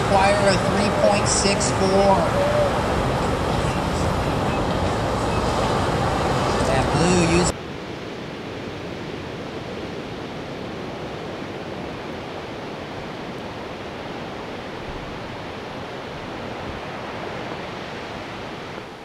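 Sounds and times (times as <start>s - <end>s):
ocean surf rushing: 0.0s - 19.0s
wind on microphone: 0.0s - 19.0s.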